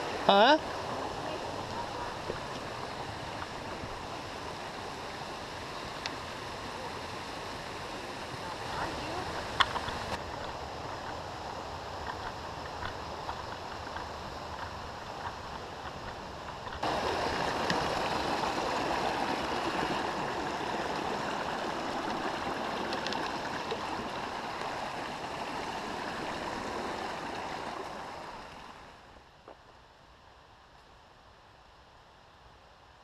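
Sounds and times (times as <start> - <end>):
stream rushing over stones: 0.0 - 29.2.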